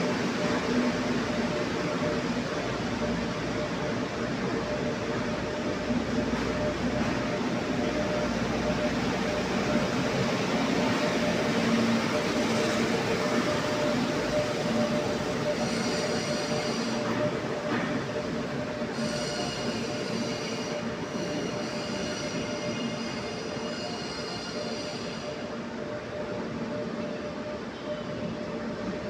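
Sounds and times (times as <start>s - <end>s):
metro train rumble and hum: 0.0s - 29.0s.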